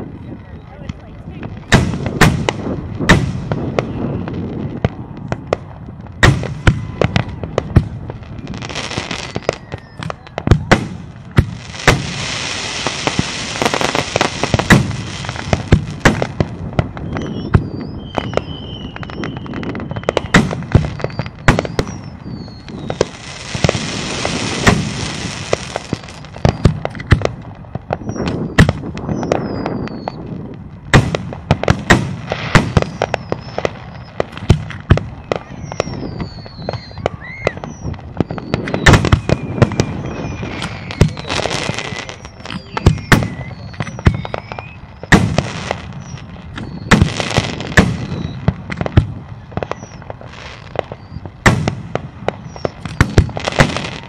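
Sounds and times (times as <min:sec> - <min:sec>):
fireworks bangs and booms: 0:00.0 - 0:54.0
fireworks hissing: 0:01.5 - 0:27.3, 0:28.0 - 0:54.0.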